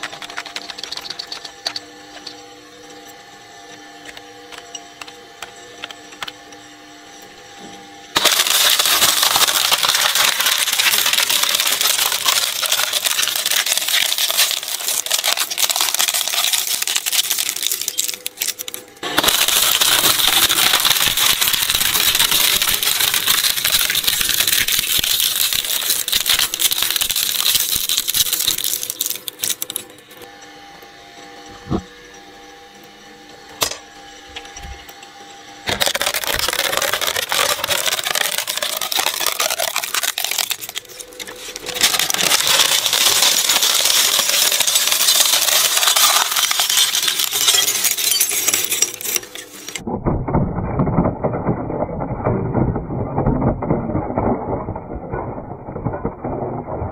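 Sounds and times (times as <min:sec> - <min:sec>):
plastic crunching in shredder: 0:00.0 - 0:06.5, 0:08.1 - 0:30.2, 0:35.6 - 0:56.9
shredder motor hum: 0:00.0 - 0:56.9.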